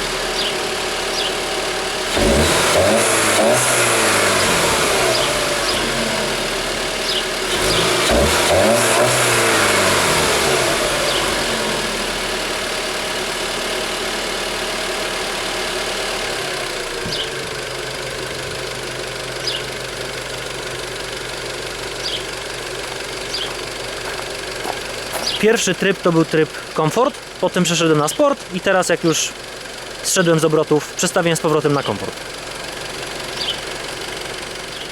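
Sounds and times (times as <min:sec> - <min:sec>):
car engine revving and idling: 0:00.0 - 0:34.9.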